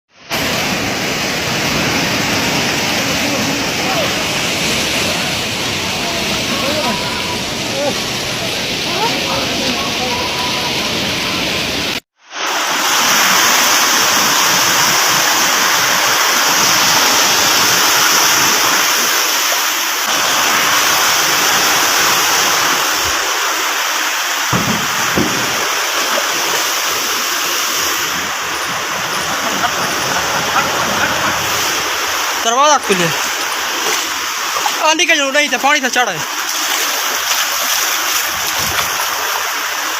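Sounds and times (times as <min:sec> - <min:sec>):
river floodwater rushing: 0:00.2 - 0:39.9.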